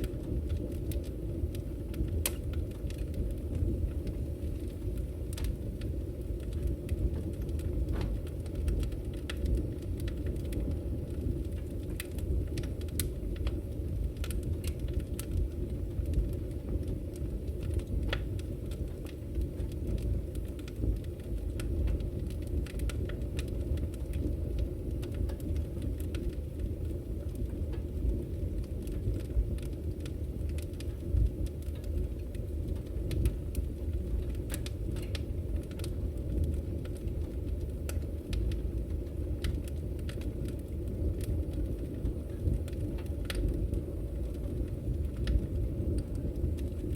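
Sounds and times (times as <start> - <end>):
fire low rumble: 0.0 - 46.9.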